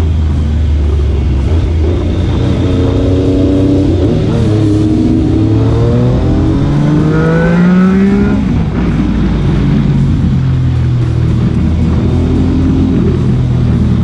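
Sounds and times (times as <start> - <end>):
motorcycle engine accelerating: 0.0 - 14.0
music playing: 0.0 - 14.0.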